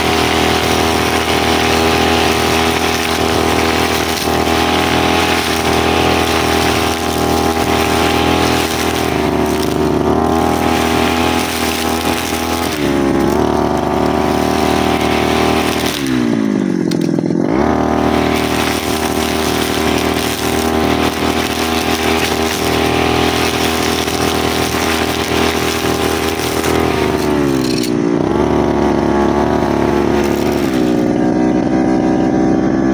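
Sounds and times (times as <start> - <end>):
brushcutter engine revving: 0.0 - 32.9.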